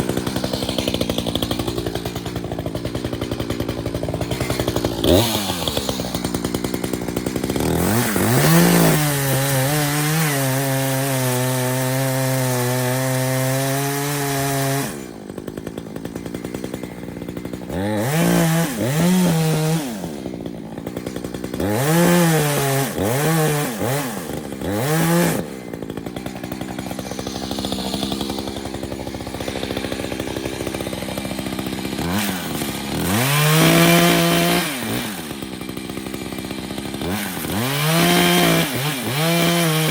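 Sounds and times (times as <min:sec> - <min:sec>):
two-stroke chainsaw revving: 0:00.0 - 0:39.9.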